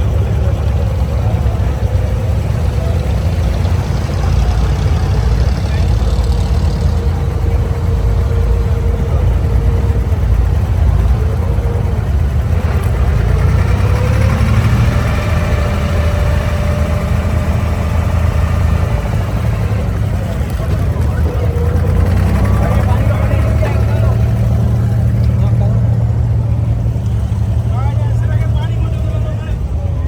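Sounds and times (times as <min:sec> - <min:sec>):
diesel boat engine droning: 0:00.0 - 0:30.0.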